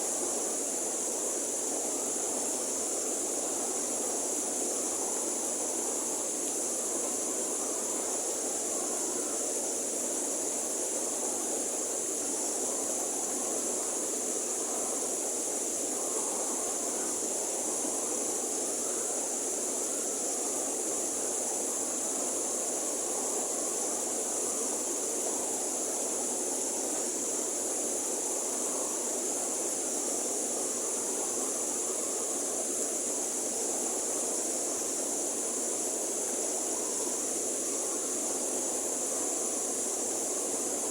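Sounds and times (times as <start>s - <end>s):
constant high hiss: 0.0s - 40.9s.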